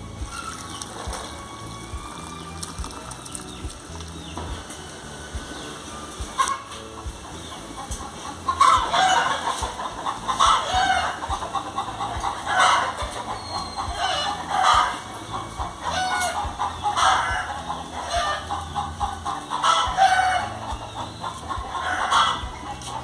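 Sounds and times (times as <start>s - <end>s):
chickens calling: 0.0s - 23.0s.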